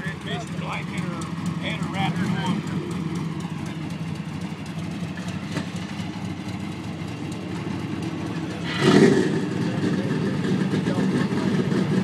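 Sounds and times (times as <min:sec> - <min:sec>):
engine idling with loud burst: 0:00.0 - 0:12.0.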